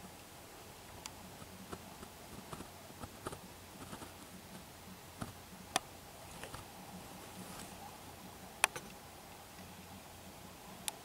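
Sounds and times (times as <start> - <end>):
rustling branches and leaves: 0.0 - 11.0.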